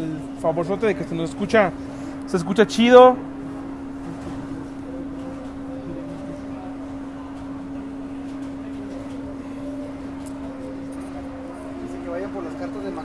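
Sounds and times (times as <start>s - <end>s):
steady humming tone: 0.0s - 13.0s.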